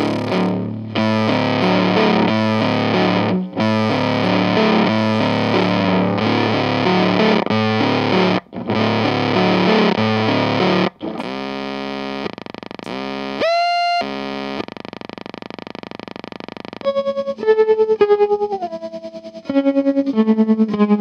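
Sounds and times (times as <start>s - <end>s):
distorted electric guitar riff: 0.0s - 21.0s
fuzz pedal buzzing drone: 0.0s - 21.0s.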